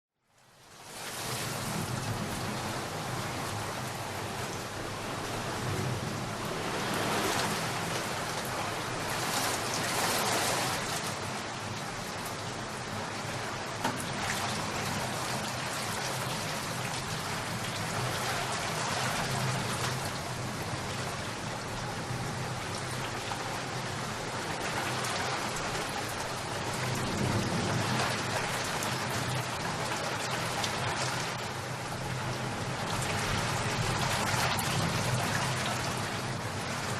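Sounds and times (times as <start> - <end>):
rain pattering: 0.2 - 36.9.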